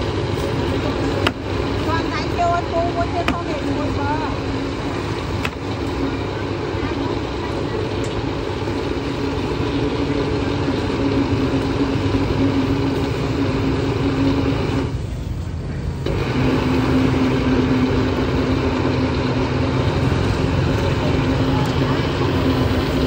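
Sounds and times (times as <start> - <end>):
blender motor humming: 0.0 - 15.0, 16.0 - 23.0.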